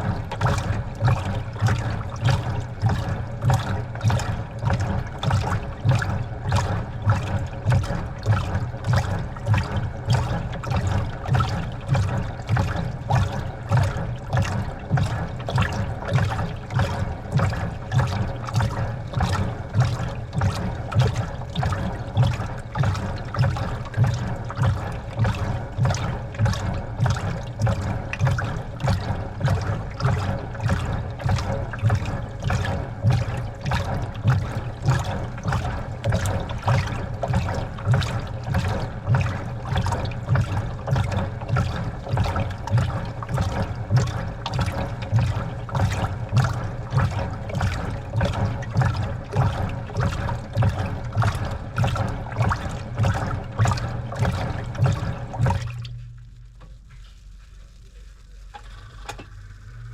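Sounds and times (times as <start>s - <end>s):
washing machine churning water: 0.0s - 59.9s.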